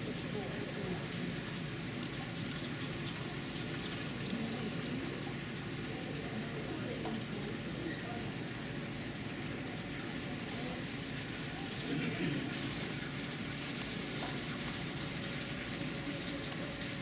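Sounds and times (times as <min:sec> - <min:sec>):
faint indistinct voices: 0:00.0 - 0:17.0.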